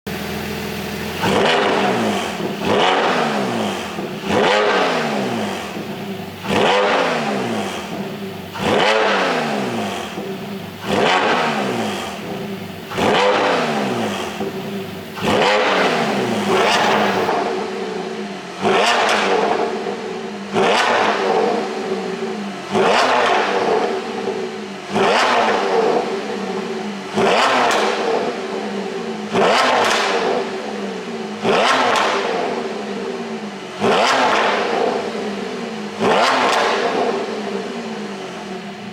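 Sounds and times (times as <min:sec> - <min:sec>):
car engine revving: 0:00.1 - 0:38.9.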